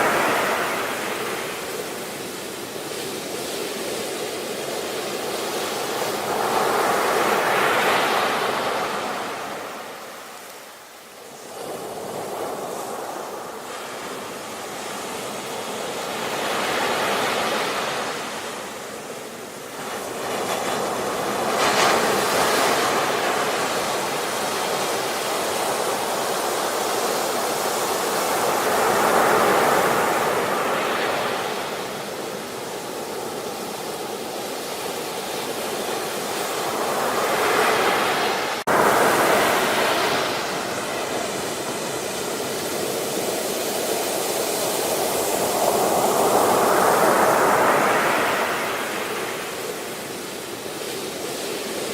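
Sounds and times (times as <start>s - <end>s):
waves breaking: 0.0s - 51.9s.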